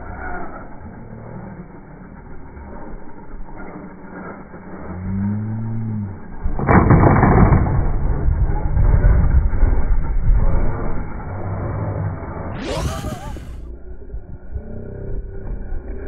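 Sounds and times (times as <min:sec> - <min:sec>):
tyre and motor noise: 0:00.0 - 0:16.0.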